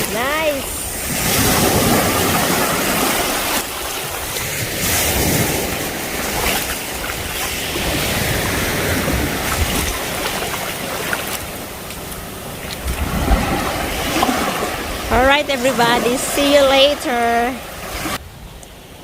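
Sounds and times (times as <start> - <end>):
wind on microphone: 0.0 - 10.4, 12.8 - 18.7
sea waves washing onto beach: 0.0 - 19.0.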